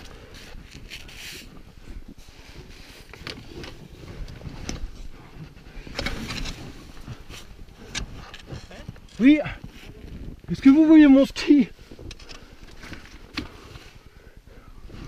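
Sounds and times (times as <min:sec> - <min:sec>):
snow crunching and scraping: 0:00.0 - 0:14.1.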